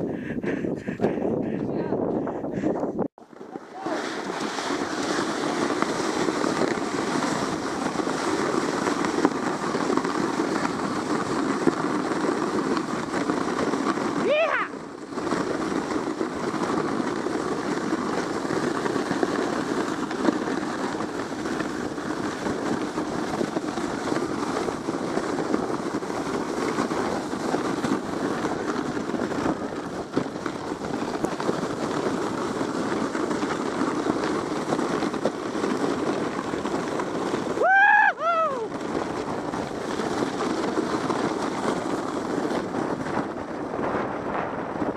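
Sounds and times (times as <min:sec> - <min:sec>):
sled scraping on snow: 0:00.7 - 0:44.9.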